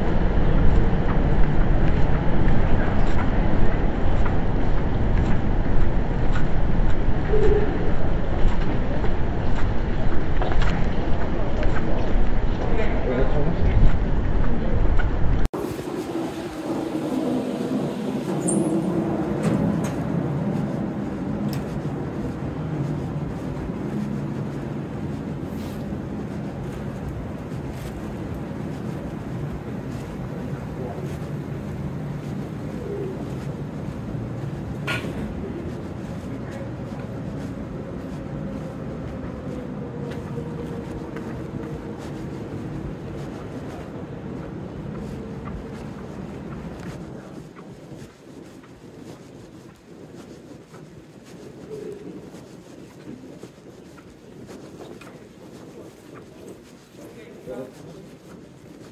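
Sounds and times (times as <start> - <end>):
low mechanical city hum: 0.0 - 58.9.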